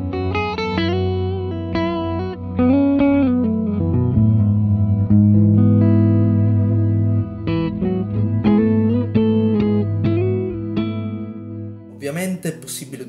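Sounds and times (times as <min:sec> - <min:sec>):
held guitar drone: 0:00.0 - 0:11.9
electric guitar single notes: 0:00.0 - 0:12.0.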